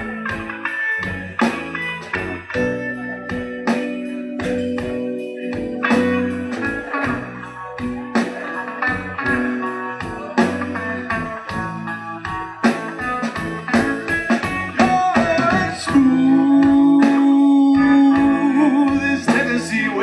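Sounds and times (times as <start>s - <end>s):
bass and drums: 0.0s - 20.0s
lead electric guitar: 0.0s - 20.0s.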